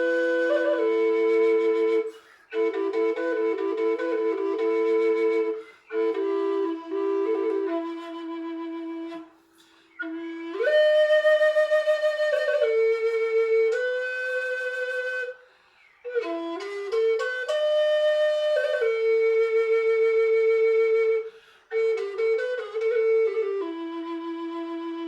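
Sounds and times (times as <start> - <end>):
solo flute melody: 0.0 - 25.0.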